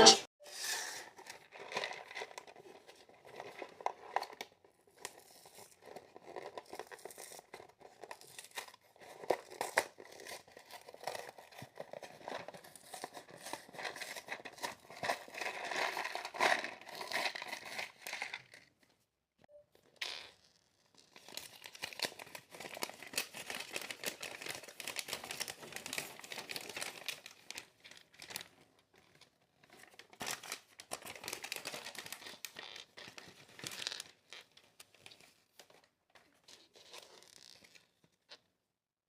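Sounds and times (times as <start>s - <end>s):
packaging crinkling and tearing: 1.2s - 18.7s, 20.3s - 35.8s.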